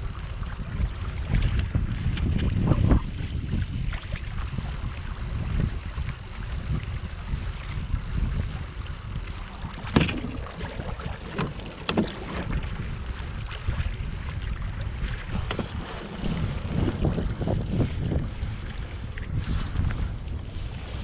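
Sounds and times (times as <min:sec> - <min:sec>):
water lapping against hull: 0:00.0 - 0:21.0
wind buffeting microphone: 0:00.0 - 0:21.0.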